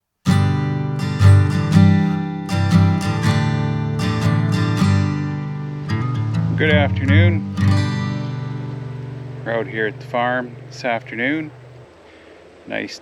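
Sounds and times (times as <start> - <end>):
strummed acoustic guitar: 0.2 - 11.9.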